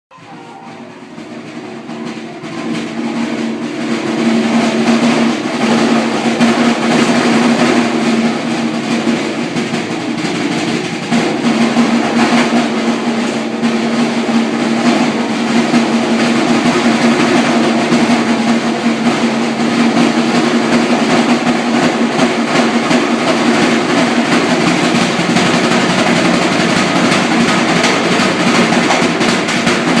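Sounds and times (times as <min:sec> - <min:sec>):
rapid drumming: 0:00.1 - 0:30.0
ringing drum tone: 0:00.1 - 0:30.0.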